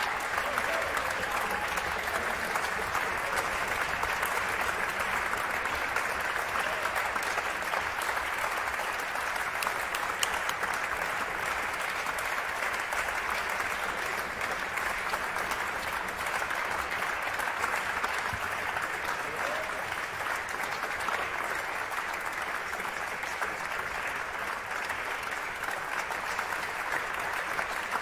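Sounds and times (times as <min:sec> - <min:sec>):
audience applause: 0:00.0 - 0:28.0.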